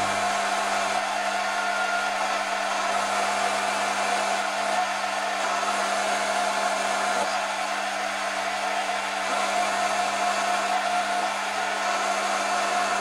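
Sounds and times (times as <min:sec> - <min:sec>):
lathe motor whirring: 0:00.0 - 0:13.0.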